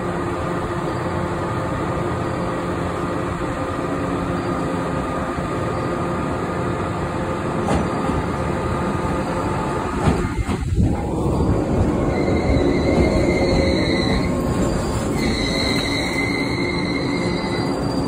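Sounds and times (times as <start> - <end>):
electric train humming: 0.0 - 18.0.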